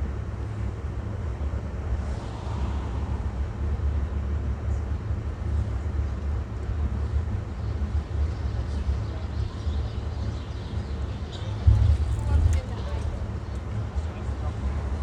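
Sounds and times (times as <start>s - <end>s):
car engine rumble: 0.0s - 15.0s
road noise inside car: 0.0s - 15.0s.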